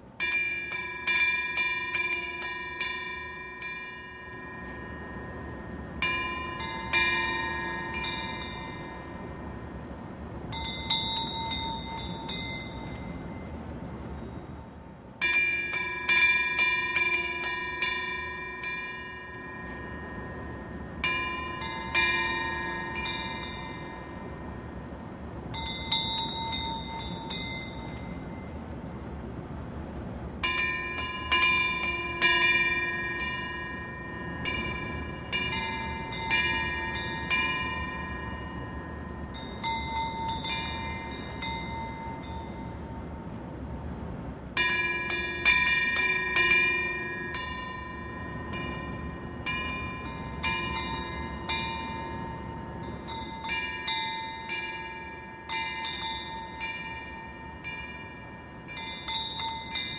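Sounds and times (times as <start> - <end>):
wind bells ringing: 0.0 - 29.4, 30.0 - 59.9
steady low hiss: 0.0 - 59.9.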